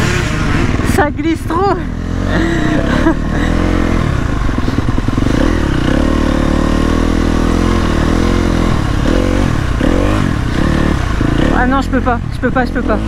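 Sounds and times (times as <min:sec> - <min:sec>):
motocross bike engine running: 0:00.0 - 0:13.0.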